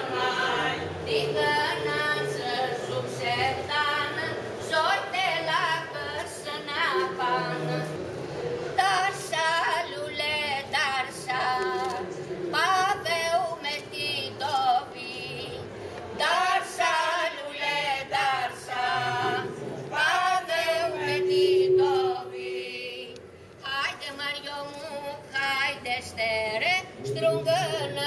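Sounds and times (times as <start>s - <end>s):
women singing unaccompanied: 0.0s - 8.0s, 8.7s - 28.0s.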